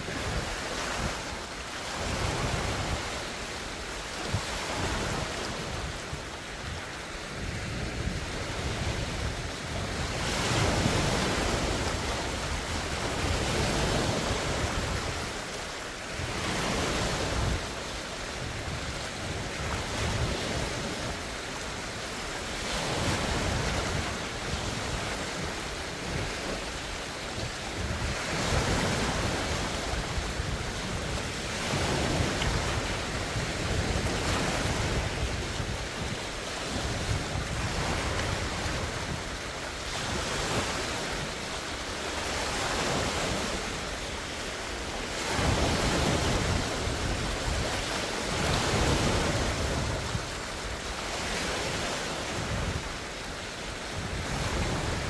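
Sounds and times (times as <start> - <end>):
lake waves breaking on shore: 0.0 - 55.0
wind noise on microphone: 0.0 - 55.0.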